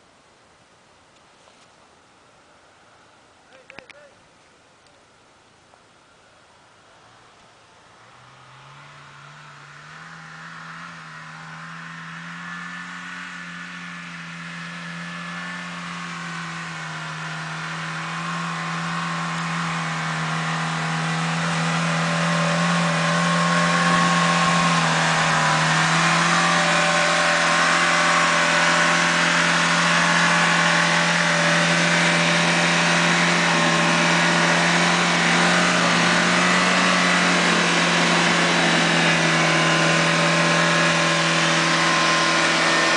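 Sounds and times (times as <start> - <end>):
off-road vehicle engine pulling: 0.0 - 42.9.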